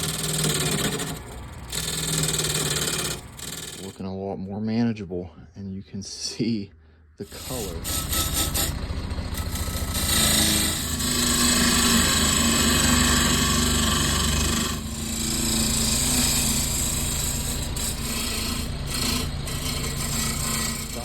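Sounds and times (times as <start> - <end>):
gouge rasping wood: 0.0 - 4.0, 7.3 - 21.0
lathe motor hum: 0.0 - 4.0, 7.3 - 21.0.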